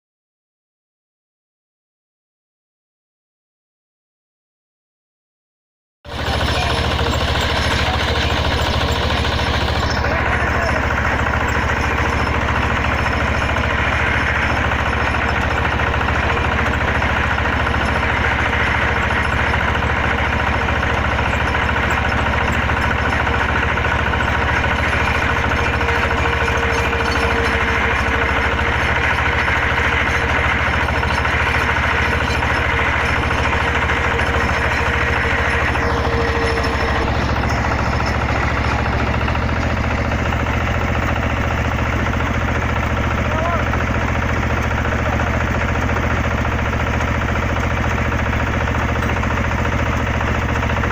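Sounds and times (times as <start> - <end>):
drilling rig engine running: 6.1 - 50.9.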